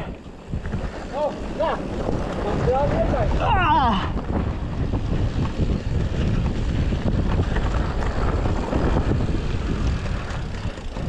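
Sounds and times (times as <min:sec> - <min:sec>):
bike rattling over rough ground: 0:00.0 - 0:11.0
wind buffeting microphone: 0:00.0 - 0:11.0.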